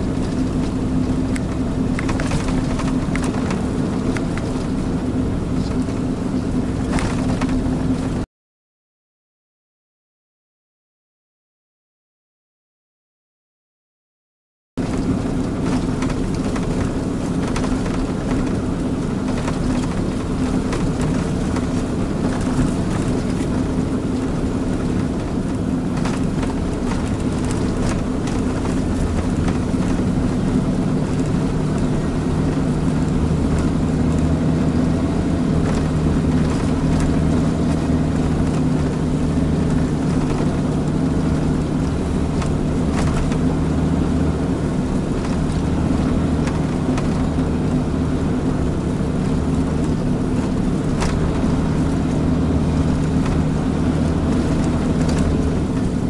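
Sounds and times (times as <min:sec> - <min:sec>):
diesel engine droning: 0:00.0 - 0:08.3, 0:14.8 - 0:56.0
road noise: 0:00.0 - 0:08.3, 0:14.8 - 0:56.0.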